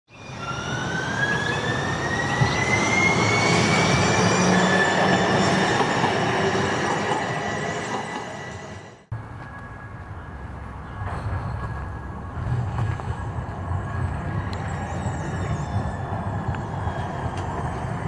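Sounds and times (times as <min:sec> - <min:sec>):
streetcar rumbling on rails: 0:00.1 - 0:18.0.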